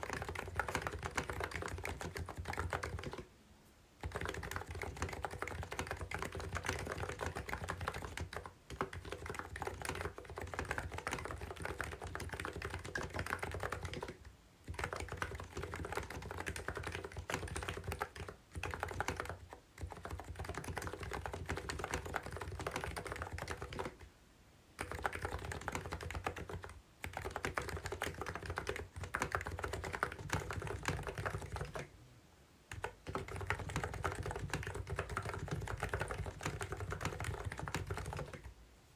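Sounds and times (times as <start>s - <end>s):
keyboard typing: 0.0s - 3.3s, 4.0s - 24.1s, 24.8s - 31.9s, 32.7s - 38.5s.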